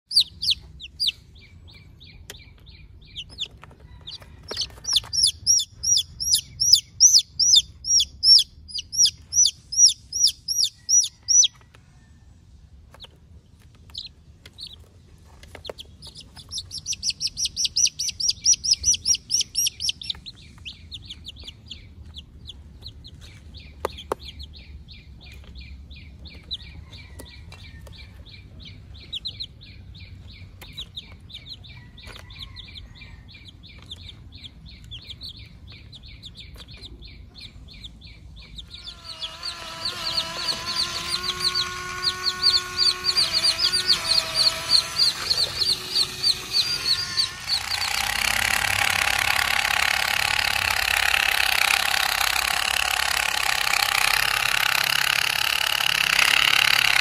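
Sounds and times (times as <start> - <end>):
chicks peeping: 0.1 - 57.0.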